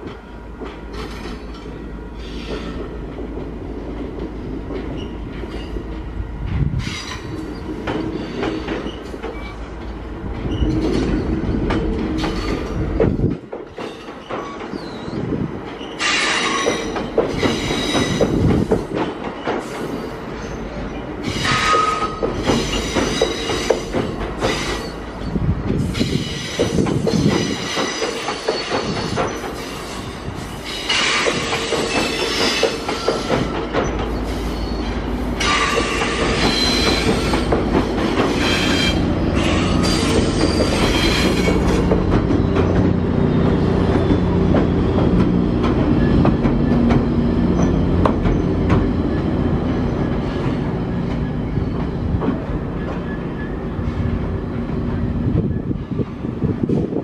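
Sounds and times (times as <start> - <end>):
train wheels squealing and clattering: 0.0 - 3.4, 4.2 - 57.0
diesel locomotive engine drone: 0.0 - 57.0.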